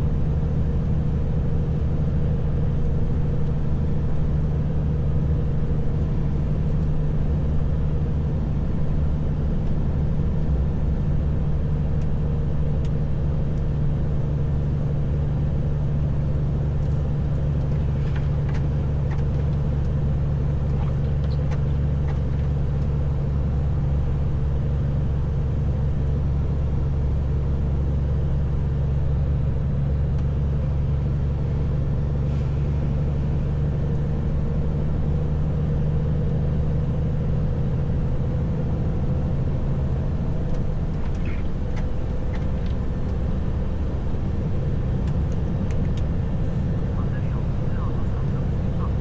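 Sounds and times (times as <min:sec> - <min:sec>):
truck engine and road noise: 0:00.0 - 0:49.0.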